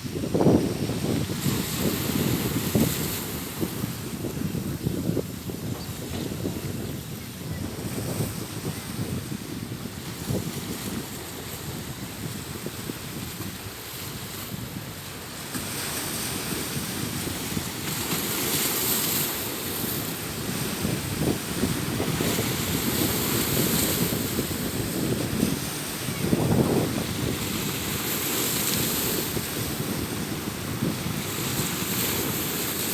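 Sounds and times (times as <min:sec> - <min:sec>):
sea waves washing onto shore: 0:00.0 - 0:32.9
wind buffeting microphone: 0:00.0 - 0:32.9.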